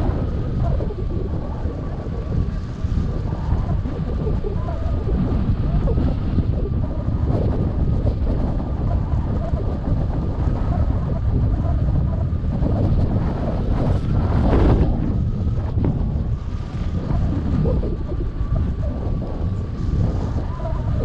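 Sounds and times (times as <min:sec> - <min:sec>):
low wind rumble: 0:00.0 - 0:21.0.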